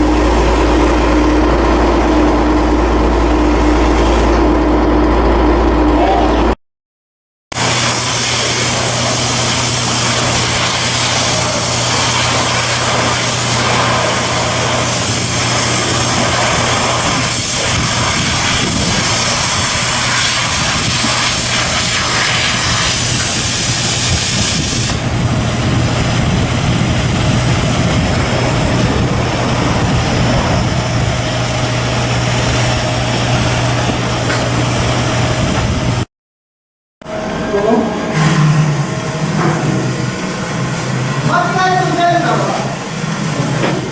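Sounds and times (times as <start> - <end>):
heavy machinery low hum: 0.0 - 6.6, 7.5 - 36.1, 37.0 - 43.9.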